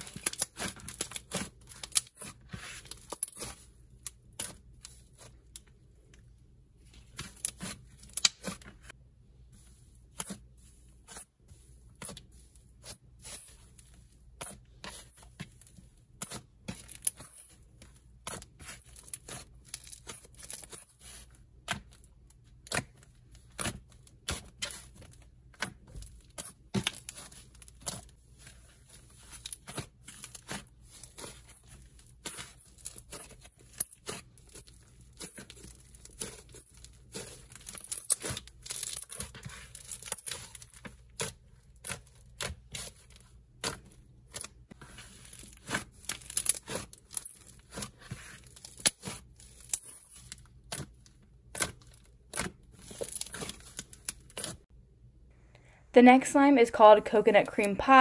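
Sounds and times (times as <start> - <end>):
clay slime crackling and popping: 0.0 - 9.0, 9.6 - 54.7.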